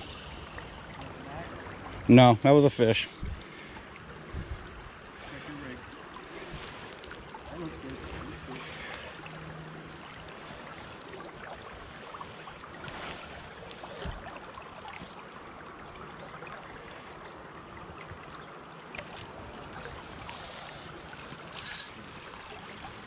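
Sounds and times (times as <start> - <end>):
creek water running: 0.0 - 23.0.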